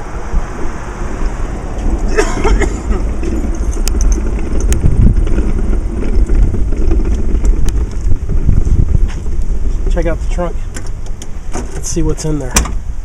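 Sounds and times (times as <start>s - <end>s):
gusty low rumble: 0.0s - 13.0s.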